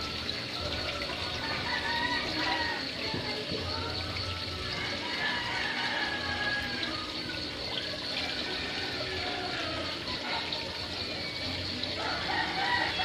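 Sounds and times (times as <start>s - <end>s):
water trickling in aquarium: 0.0s - 13.0s.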